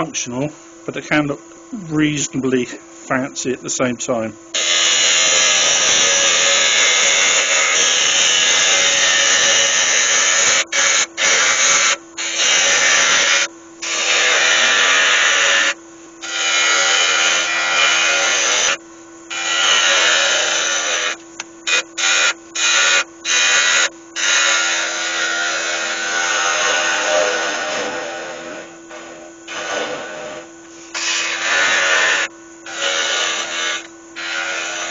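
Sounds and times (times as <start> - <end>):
lathe motor hum: 0.0 - 34.9
gouge cutting wood on a lathe: 4.6 - 34.9.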